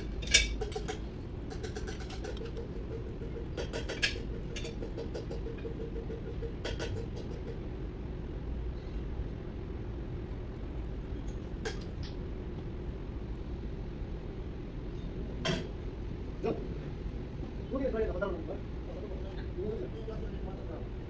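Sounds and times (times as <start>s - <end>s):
low workshop rumble: 0.0s - 21.0s.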